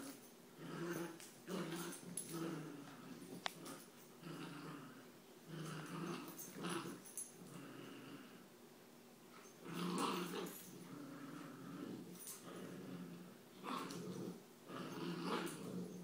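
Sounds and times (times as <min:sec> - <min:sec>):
puppies growling: 0:00.0 - 0:08.5, 0:09.4 - 0:16.0.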